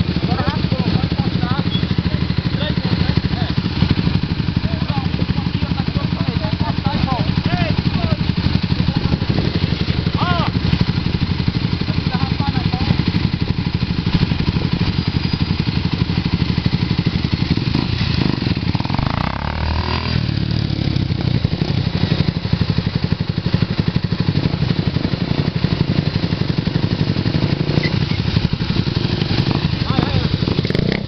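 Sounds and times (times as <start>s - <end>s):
motorcycle engines running: 0.0s - 31.0s.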